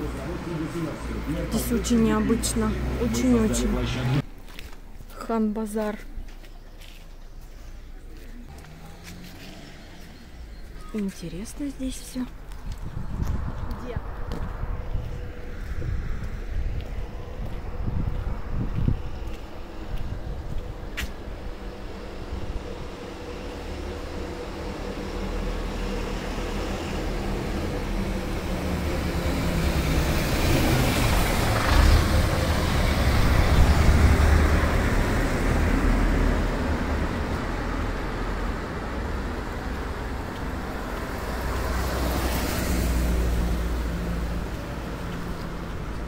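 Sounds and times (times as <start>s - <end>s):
cars passing: 0.0s - 46.0s
low traffic rumble: 0.0s - 46.0s.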